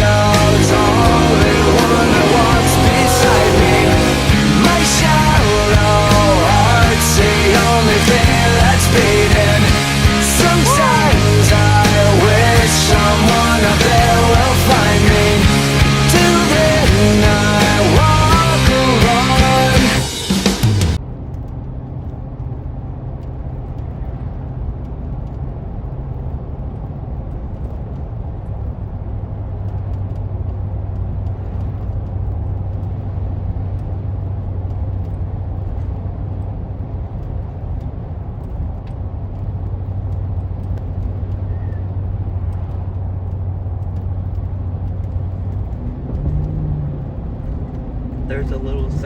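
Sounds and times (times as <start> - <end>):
car engine and road drone: 0.0 - 49.0
low hum: 0.0 - 49.0.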